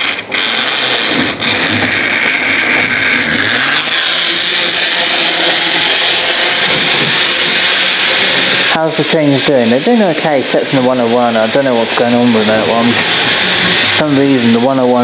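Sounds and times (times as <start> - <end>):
model train whirring rattle: 0.0 - 15.0.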